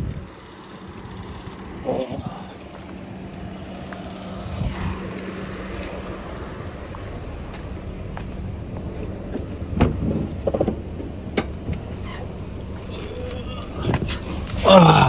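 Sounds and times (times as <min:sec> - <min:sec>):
car engine and road hum: 0:00.0 - 0:15.0.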